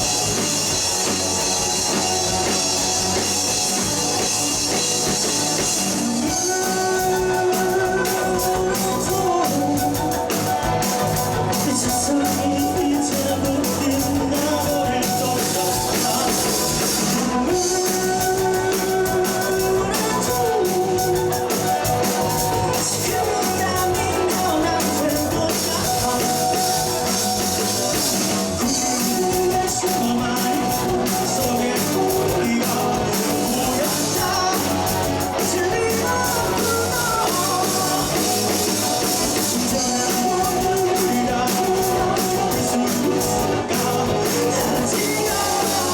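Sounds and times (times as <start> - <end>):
live rock band playing: 0.0 - 45.9
person singing: 0.0 - 45.9.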